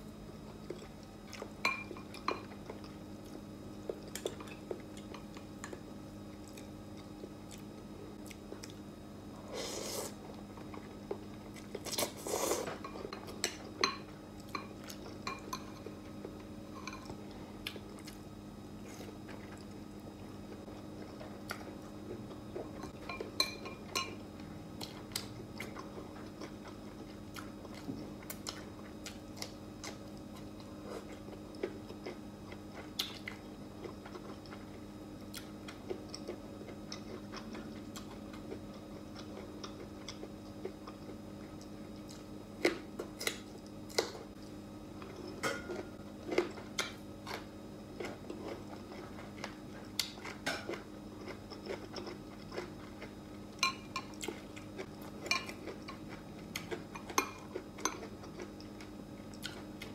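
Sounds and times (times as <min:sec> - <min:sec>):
faint steady hum: 0:00.0 - 0:59.9
person chewing food: 0:00.5 - 0:59.9.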